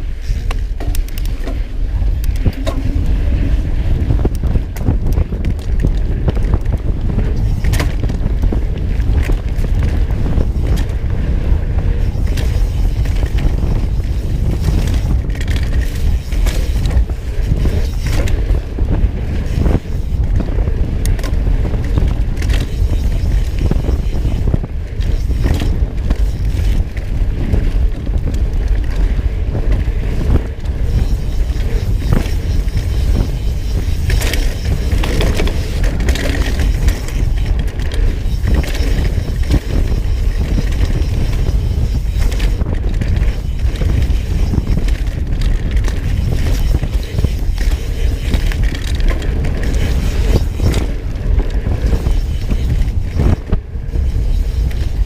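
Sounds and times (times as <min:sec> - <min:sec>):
bike knocking and rattling: 0:00.0 - 0:55.0
low rumble: 0:00.0 - 0:55.0
wind buffeting microphone: 0:00.0 - 0:55.0.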